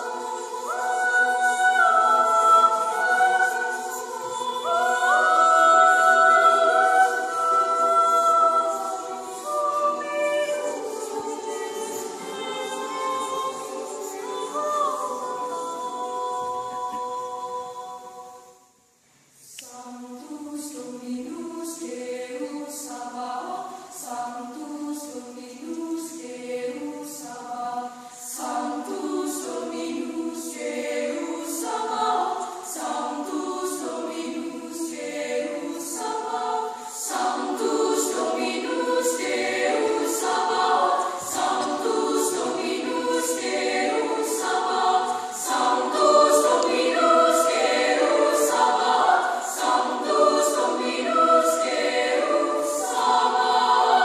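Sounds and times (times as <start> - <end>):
girls' choir singing: 0.0 - 18.5, 19.5 - 54.0.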